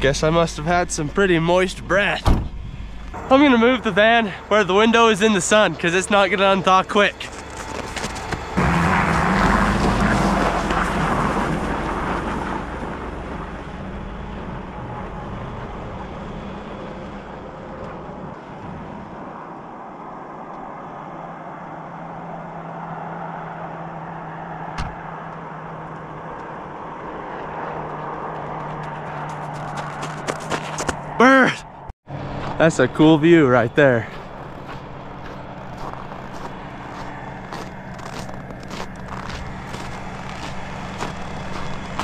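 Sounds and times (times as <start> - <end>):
van engine humming: 0.0 - 42.0.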